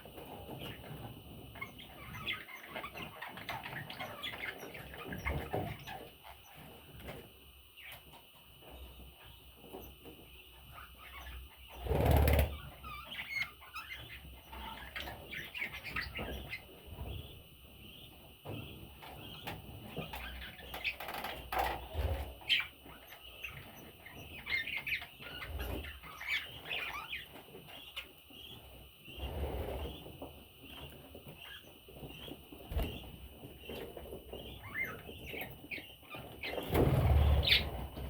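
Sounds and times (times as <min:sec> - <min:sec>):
budgerigars chirping: 0:01.5 - 0:06.6, 0:10.4 - 0:29.2, 0:29.8 - 0:38.0.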